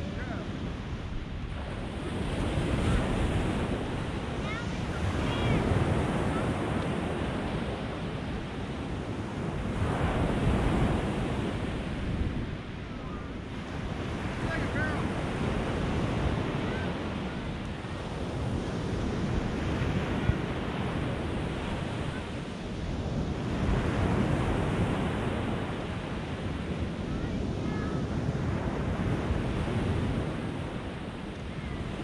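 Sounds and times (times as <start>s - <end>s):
small waves breaking on beach: 0.0s - 32.0s
wind buffeting microphone: 0.0s - 32.0s.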